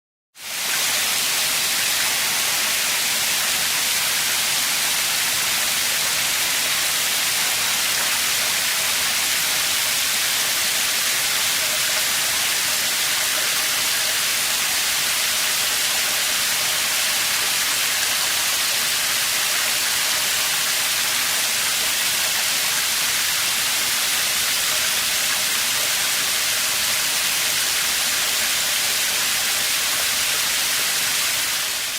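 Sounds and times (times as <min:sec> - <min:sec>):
shower water running: 0:00.4 - 0:31.9.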